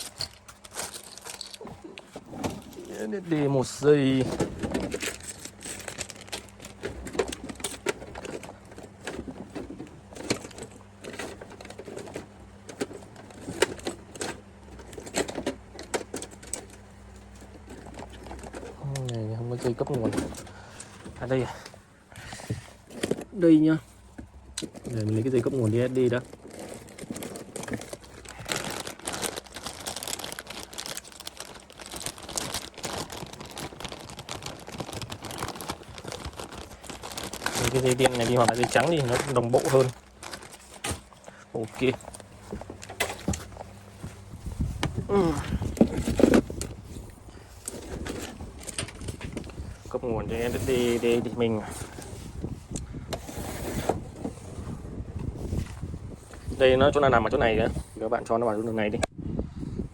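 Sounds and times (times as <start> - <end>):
packaging and cables rustling: 0.0 - 57.7.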